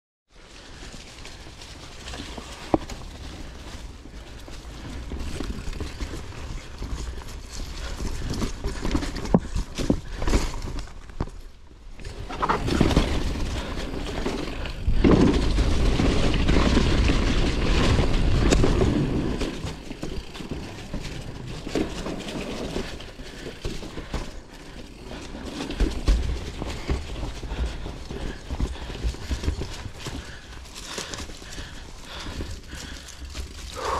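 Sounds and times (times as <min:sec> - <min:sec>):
bike tyres rumbling on trail: 0:00.3 - 0:33.9
bike chain and frame rattling: 0:00.4 - 0:33.9.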